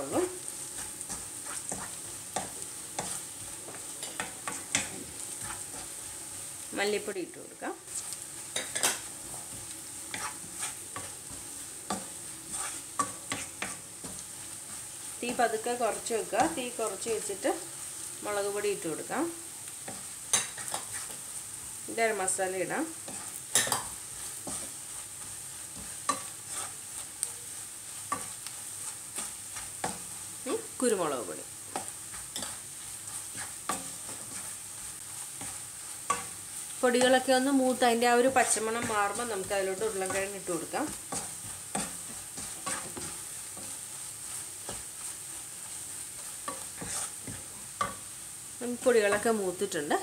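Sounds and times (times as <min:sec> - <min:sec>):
wooden spatula scraping pan: 0:00.0 - 0:06.1, 0:07.9 - 0:18.6, 0:19.8 - 0:21.3, 0:22.2 - 0:48.1
onions sizzling in oil: 0:00.0 - 0:50.0.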